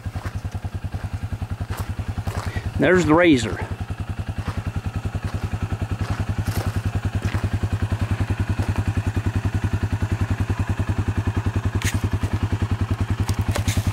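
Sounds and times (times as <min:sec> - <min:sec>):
utility vehicle engine idling: 0:00.0 - 0:13.9.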